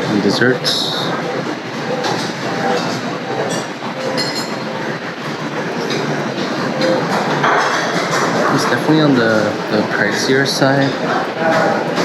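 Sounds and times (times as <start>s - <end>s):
crowd chatter: 0.1s - 12.0s.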